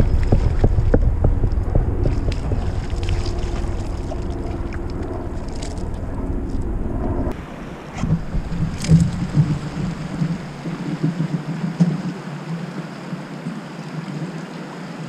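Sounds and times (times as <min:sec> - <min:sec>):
water lapping at kayak hull: 0:00.0 - 0:06.7, 0:07.3 - 0:15.0
wind buffeting microphone: 0:00.0 - 0:15.0.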